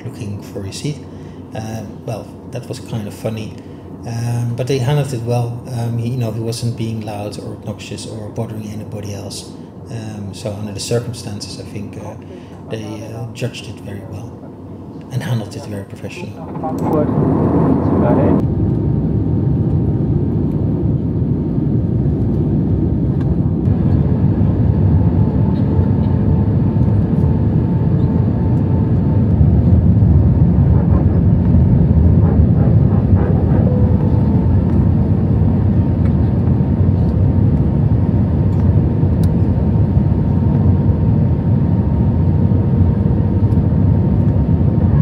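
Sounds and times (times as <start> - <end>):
airplane cabin engine rush: 0.0 - 45.0.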